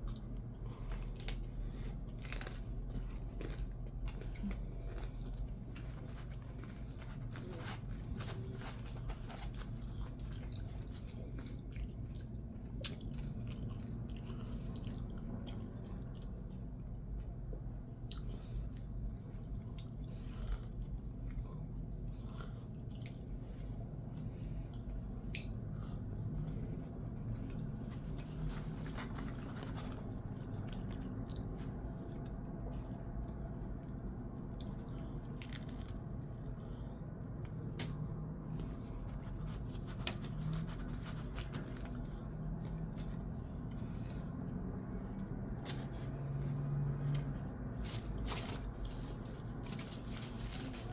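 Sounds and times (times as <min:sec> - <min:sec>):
person chewing crunchy food: 0:00.0 - 0:50.9
steady low hum: 0:00.0 - 0:50.9.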